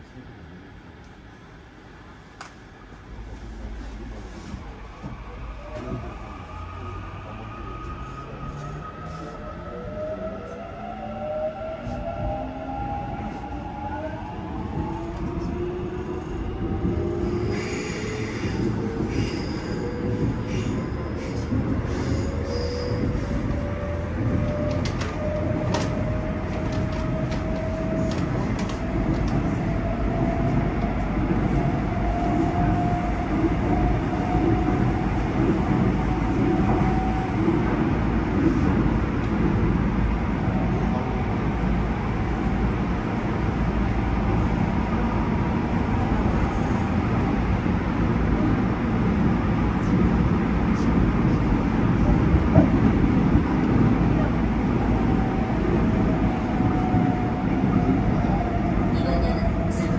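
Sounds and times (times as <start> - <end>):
train wheels rumbling on rails: 7.7 - 59.9.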